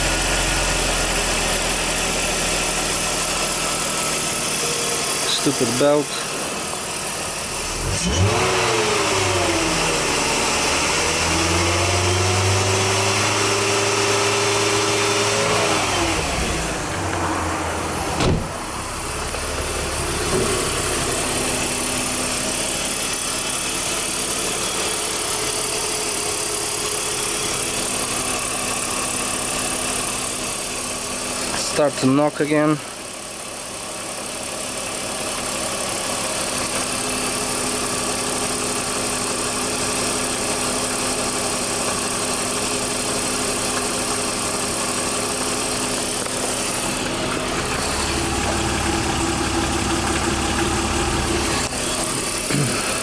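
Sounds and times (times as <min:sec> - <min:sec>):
car engine revving and idling: 0:00.0 - 0:53.0.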